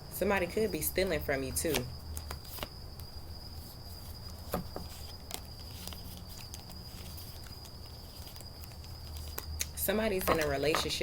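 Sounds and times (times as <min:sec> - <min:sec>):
faint high-pitched whine: 0:00.0 - 0:11.0.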